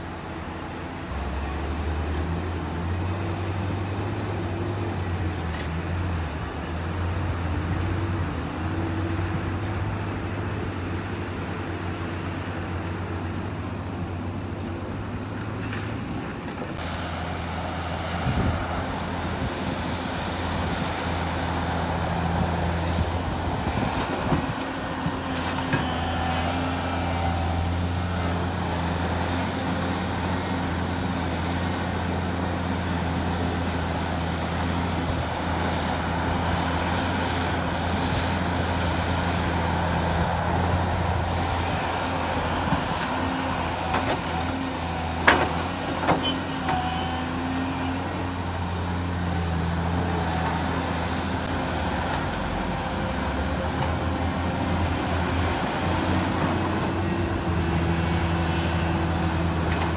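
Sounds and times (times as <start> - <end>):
dump truck diesel engine: 0.0 - 59.9
excavator diesel engine: 0.0 - 59.9.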